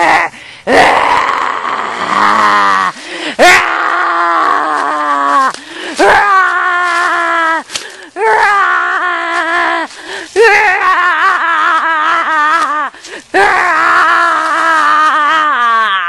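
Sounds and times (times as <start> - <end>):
person screaming in fright: 0.0 - 16.0.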